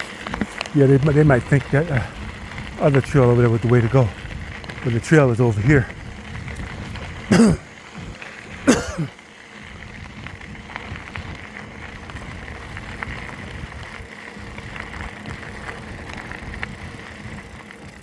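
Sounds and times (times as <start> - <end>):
bicycle rolling on dirt trail: 0.0 - 18.0.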